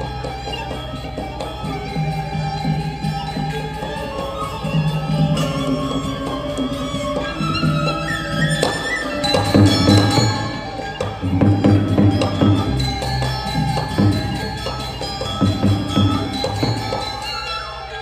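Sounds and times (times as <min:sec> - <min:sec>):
hand drum playing: 0:00.0 - 0:17.4
metallophones ringing in quick strokes: 0:00.0 - 0:18.0.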